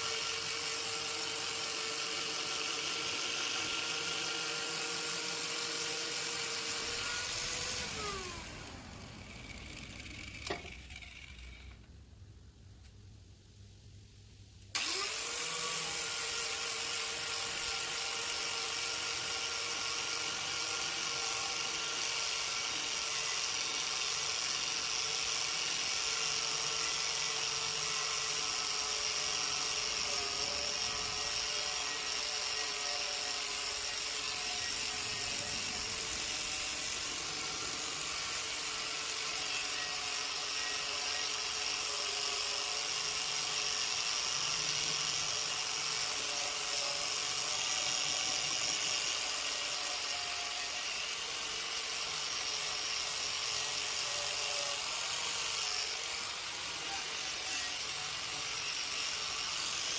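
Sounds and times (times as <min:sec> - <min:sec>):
power tool motor whining: 0:00.0 - 0:11.9, 0:14.8 - 0:59.9.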